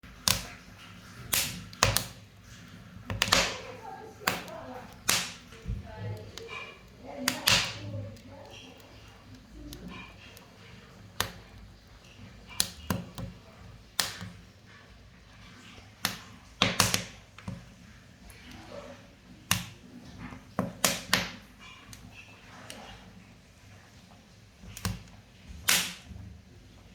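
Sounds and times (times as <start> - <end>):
low rumble of burning: 0.0 - 26.9
wood fire crackling: 0.0 - 26.9.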